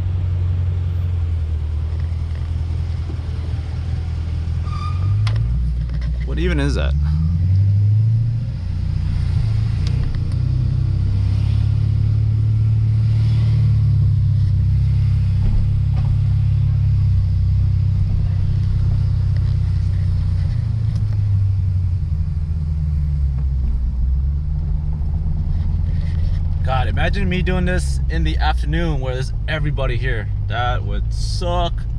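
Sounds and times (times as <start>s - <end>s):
car engine low drone: 0.0s - 31.9s.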